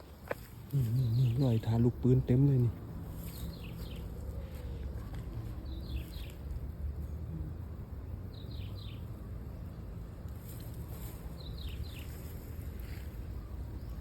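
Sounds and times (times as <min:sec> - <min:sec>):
bird chirping: 0:00.0 - 0:07.3, 0:08.2 - 0:09.8, 0:11.0 - 0:14.0
low outdoor rumble: 0:00.0 - 0:14.0.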